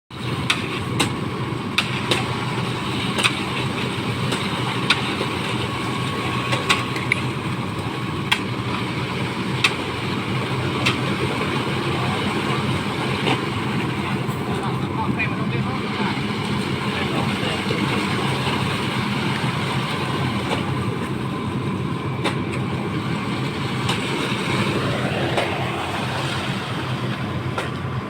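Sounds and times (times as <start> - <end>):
diesel engine running under load: 0.1 - 28.0.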